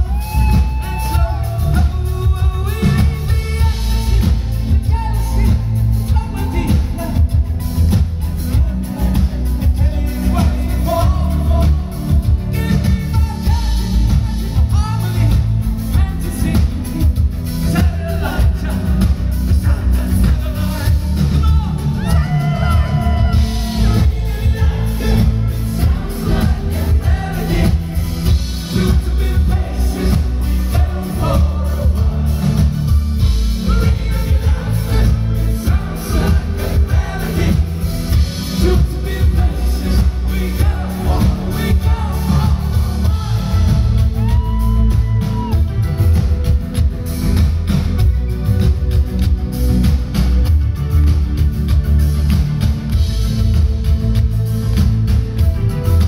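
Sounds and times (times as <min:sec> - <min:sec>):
man singing lead vocal: 0:00.0 - 0:47.5
bass: 0:00.0 - 0:56.0
steady drum beat: 0:00.0 - 0:56.0
synthesizers: 0:00.0 - 0:56.0.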